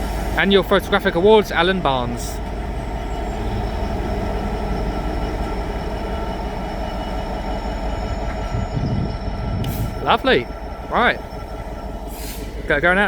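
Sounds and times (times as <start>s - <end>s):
locomotive engine rumble: 0.0s - 13.0s
steady whining tones: 0.0s - 13.0s.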